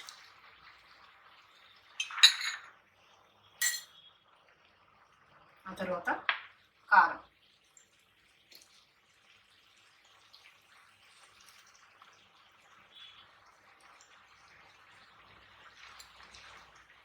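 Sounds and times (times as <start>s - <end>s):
tomatoes simmering in a pan: 0.0s - 17.0s.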